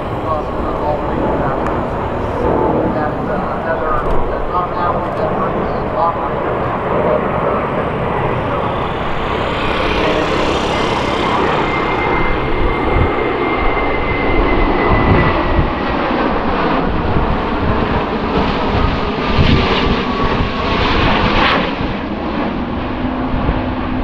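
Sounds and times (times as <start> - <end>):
high engine whine: 0.0 - 21.1
jet airliner passing overhead: 0.0 - 24.0.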